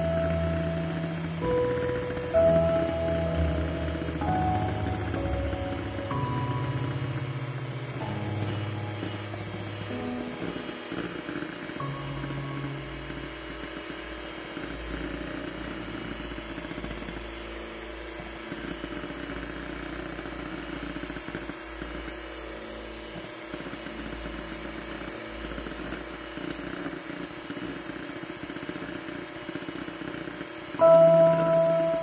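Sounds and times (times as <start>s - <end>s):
electric hand mixer whipping: 0.0s - 32.0s.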